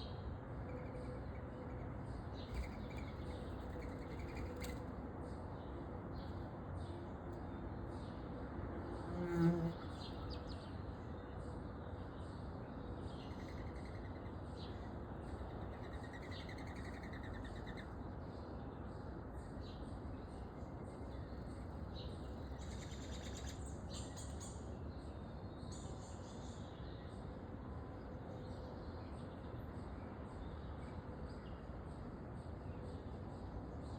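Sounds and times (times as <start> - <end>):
low background noise: 0.0 - 33.9
songbirds chirping: 0.0 - 33.9.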